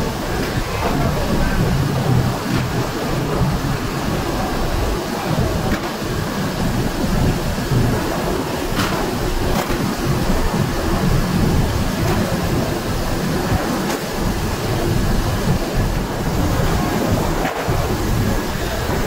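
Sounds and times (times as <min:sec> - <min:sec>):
heavy machinery rumble: 0:00.0 - 0:19.0.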